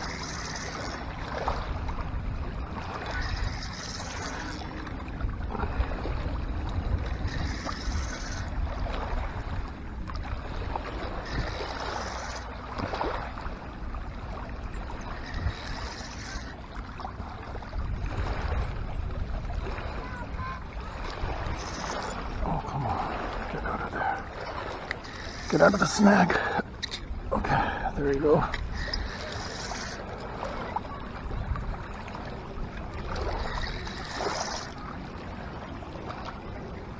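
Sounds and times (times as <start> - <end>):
waves lapping on pebbles: 0.0 - 2.0, 2.6 - 18.7, 19.6 - 36.9
wind buffeting microphone: 0.0 - 13.4, 17.1 - 35.3.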